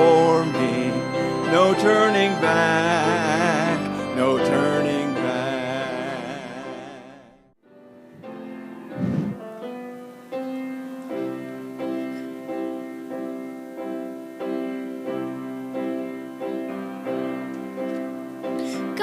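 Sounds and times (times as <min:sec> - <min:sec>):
piano hymn chords: 0:00.0 - 0:19.0.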